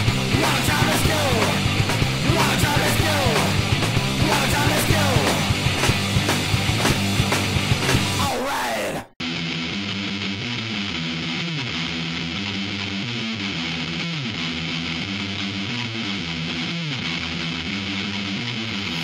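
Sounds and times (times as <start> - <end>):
guitar background music: 0.0 - 8.3, 9.2 - 19.0.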